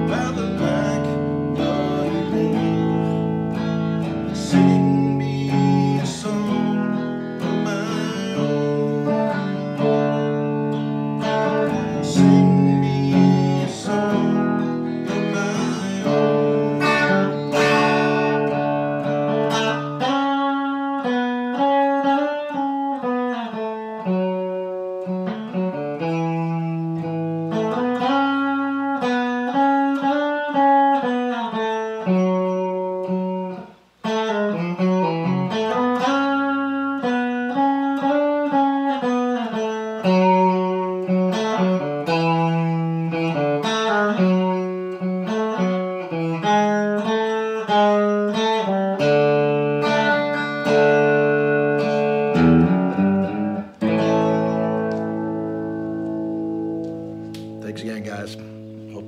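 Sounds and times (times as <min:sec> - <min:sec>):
slow electric guitar melody: 0:00.0 - 0:59.0.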